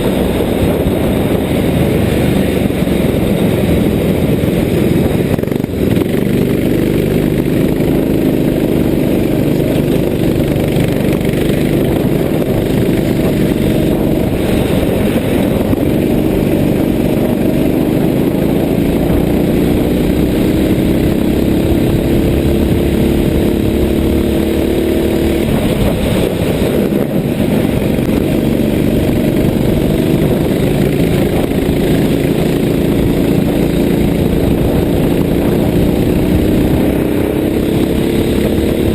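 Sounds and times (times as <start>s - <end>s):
racing kart engine running: 0.0s - 38.9s.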